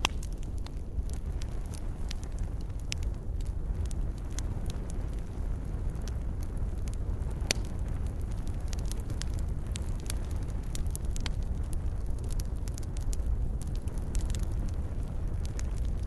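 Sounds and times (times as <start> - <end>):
fire pops and crackles: 0.0 - 16.0
low rumble of flames: 0.0 - 16.0.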